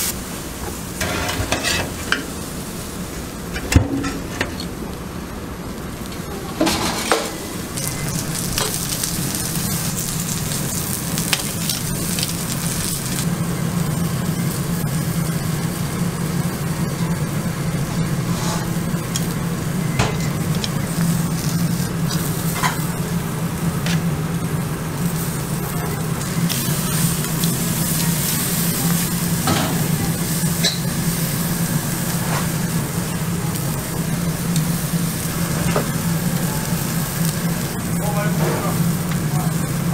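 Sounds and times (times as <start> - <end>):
food sizzling on grill: 0.0 - 39.9.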